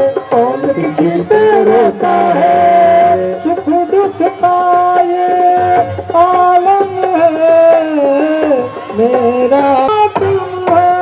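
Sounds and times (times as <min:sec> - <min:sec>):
instrumental accompaniment: 0:00.0 - 0:11.0
person singing long gliding notes: 0:00.0 - 0:11.0.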